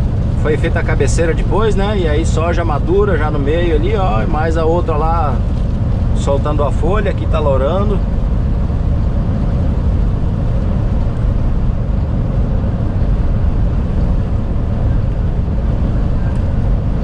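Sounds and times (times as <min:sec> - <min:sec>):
truck engine running: 0:00.0 - 0:17.0
wind buffeting truck cab: 0:00.0 - 0:17.0.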